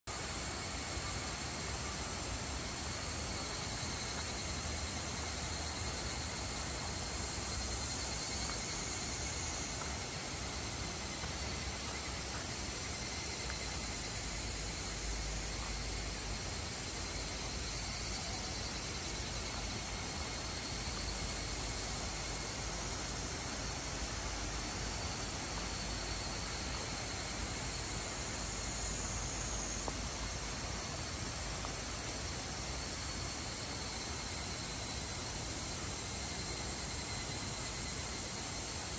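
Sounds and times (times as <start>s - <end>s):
high insect drone: 0.1s - 38.9s
steady forest hiss: 0.1s - 38.9s.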